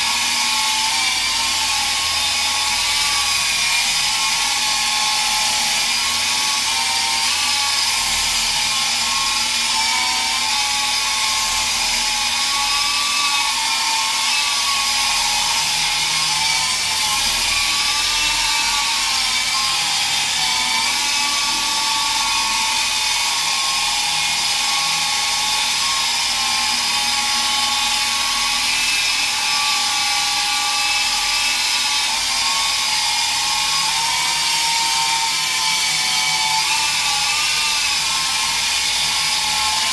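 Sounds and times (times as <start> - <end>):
toy helicopter rotor whine: 0.0 - 39.9.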